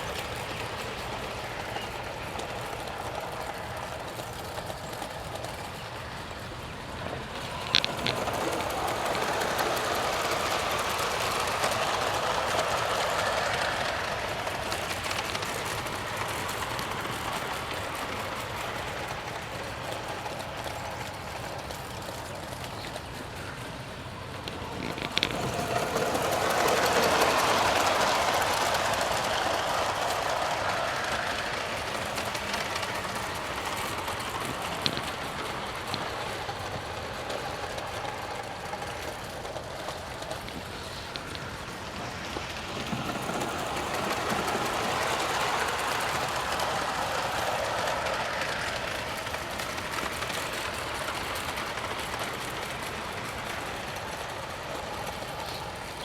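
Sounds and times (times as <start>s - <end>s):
model train motor whirring: 0.0s - 56.0s
wheels clattering on rails: 0.0s - 56.0s.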